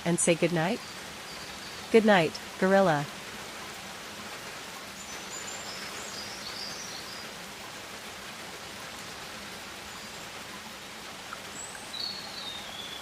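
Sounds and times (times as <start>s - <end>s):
steady hiss of rain or water: 0.0s - 13.0s.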